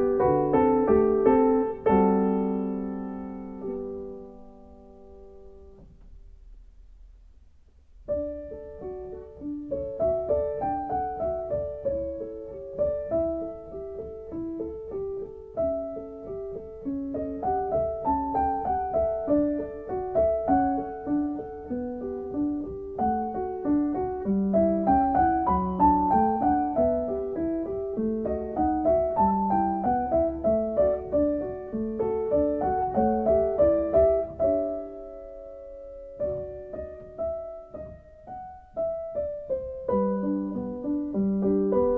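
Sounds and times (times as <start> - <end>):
solo piano music: 0.0 - 41.9.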